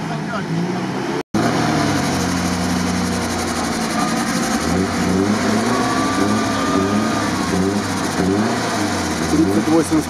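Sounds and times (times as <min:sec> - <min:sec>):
off-road vehicle engines revving: 0:00.0 - 0:10.0.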